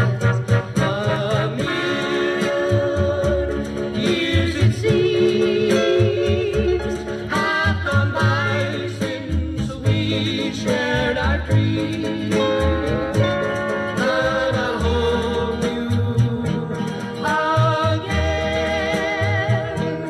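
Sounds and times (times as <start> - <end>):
singer with vibrato: 0.0 - 20.0
steady bass line: 0.0 - 20.0.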